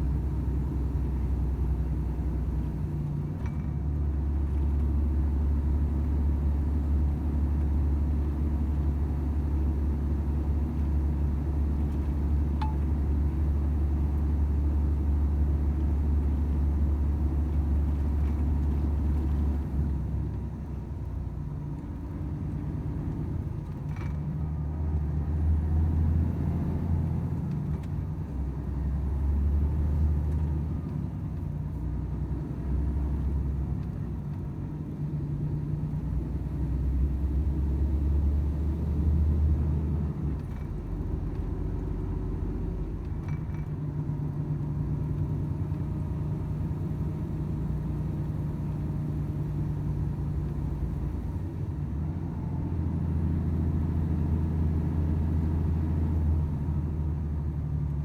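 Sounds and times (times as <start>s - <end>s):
road rumble: 0.0s - 58.0s.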